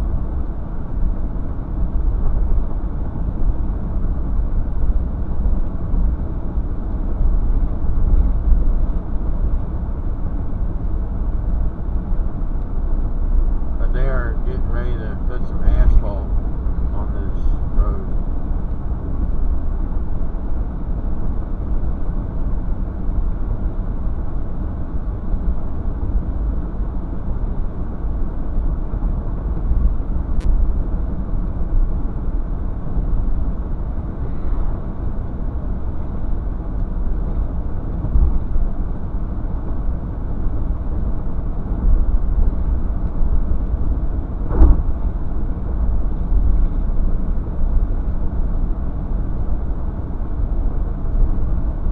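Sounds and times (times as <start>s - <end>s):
vehicle road rumble: 0.0s - 51.9s.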